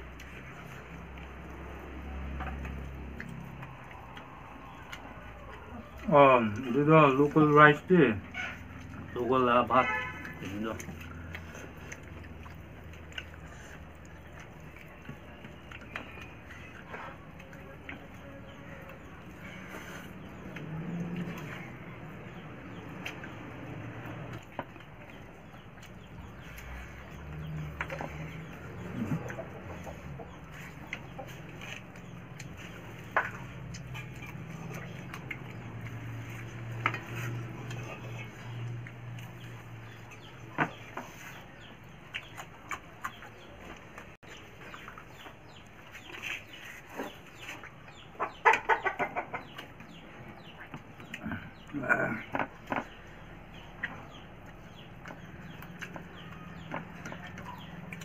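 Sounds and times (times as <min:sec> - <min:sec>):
chickens clucking: 0:00.0 - 0:58.0
soft chewing: 0:00.0 - 0:58.0.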